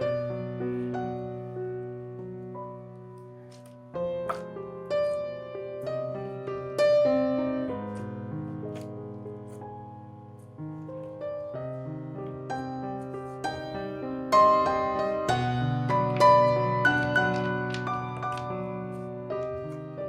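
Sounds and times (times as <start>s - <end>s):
slow piano melody: 0.0s - 20.0s.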